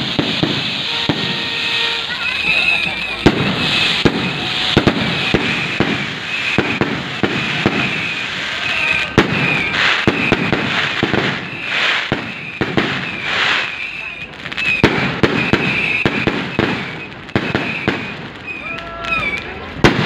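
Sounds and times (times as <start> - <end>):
firework shells bursting: 0.0 - 20.0
fireworks crackling and hissing: 0.0 - 20.0.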